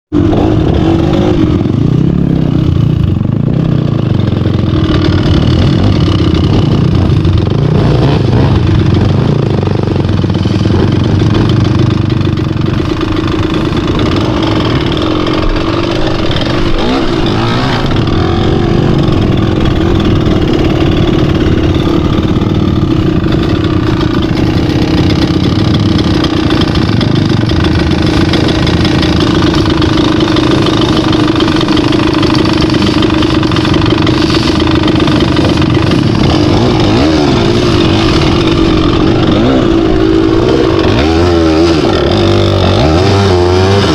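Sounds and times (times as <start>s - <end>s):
vehicle engine idling and revving: 0.1s - 43.9s.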